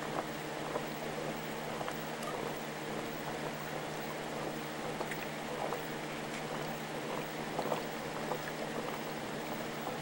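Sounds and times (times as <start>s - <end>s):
electrical hum: 0.0s - 10.0s
water bubbling in aquarium: 0.0s - 10.0s.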